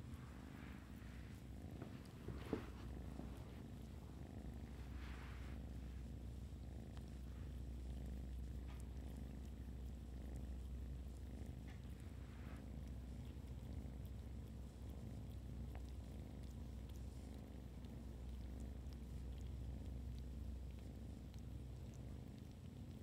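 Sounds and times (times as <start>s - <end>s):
cat purring: 0.0s - 23.0s.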